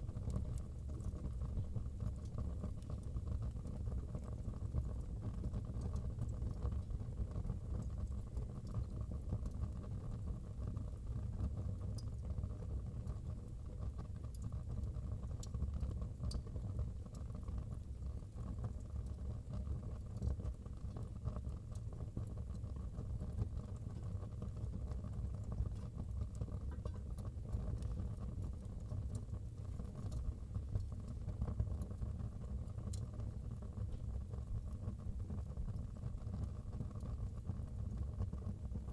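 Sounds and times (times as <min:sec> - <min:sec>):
fire crackles and pops: 0:00.0 - 0:38.9.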